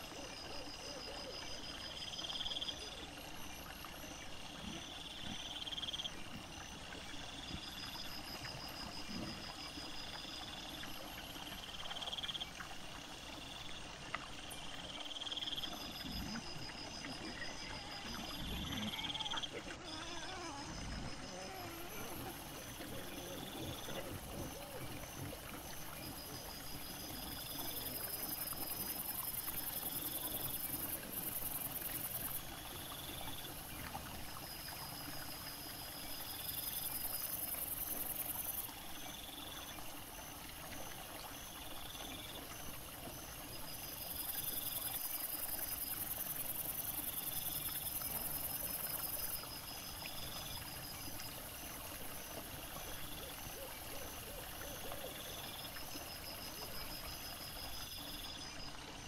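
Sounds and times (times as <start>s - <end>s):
insects chirping: 0.0s - 59.0s
water trickling: 0.0s - 59.0s.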